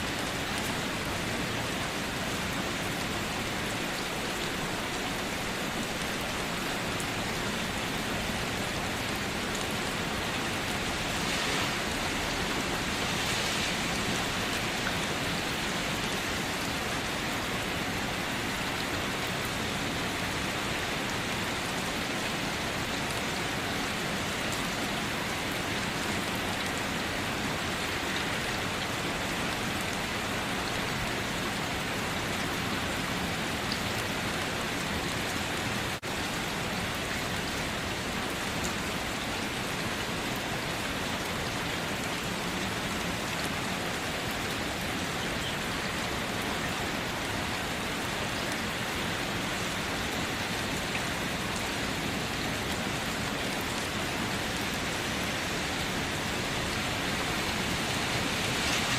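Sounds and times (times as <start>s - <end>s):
steady rain hiss: 0.0s - 58.9s.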